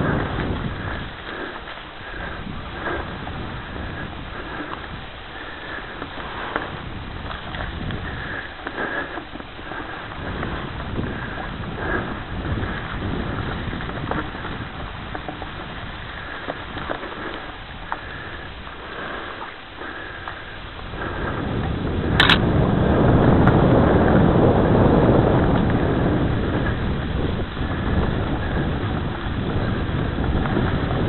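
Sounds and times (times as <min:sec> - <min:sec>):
bike tyres rolling on dirt: 0:00.0 - 0:31.0
wind buffeting microphone: 0:00.0 - 0:31.0.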